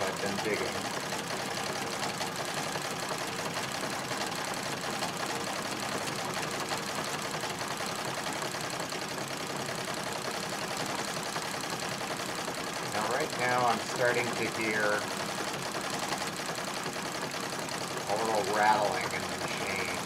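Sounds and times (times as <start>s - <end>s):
sewing machine clattering: 0.0s - 20.0s
sewing machine rattling: 0.0s - 20.0s.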